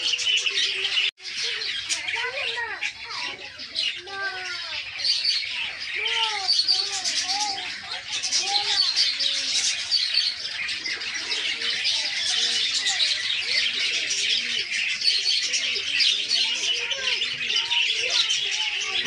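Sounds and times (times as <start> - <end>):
budgerigars chattering and chirping: 0.0 - 19.0
rising-and-falling bird calls: 0.0 - 19.0.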